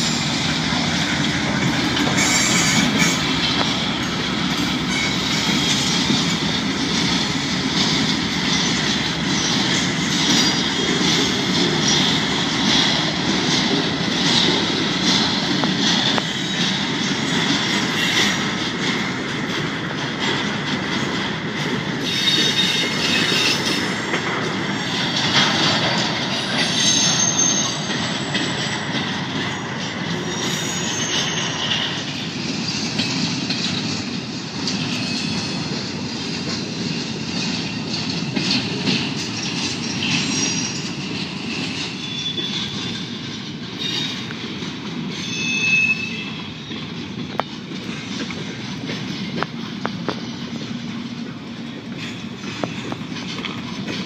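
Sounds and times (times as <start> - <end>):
freight train wheels clattering: 0.0 - 54.0
train wheels squealing: 0.0 - 54.0.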